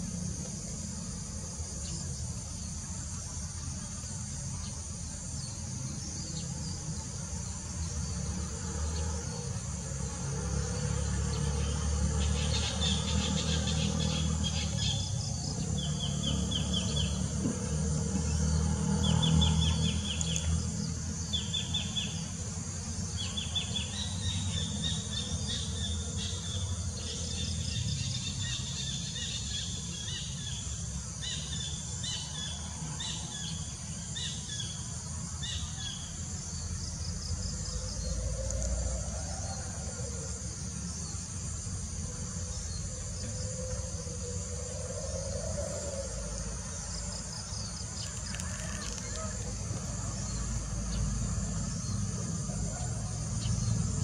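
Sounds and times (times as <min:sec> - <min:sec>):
high insect buzz: 0:00.0 - 0:54.0.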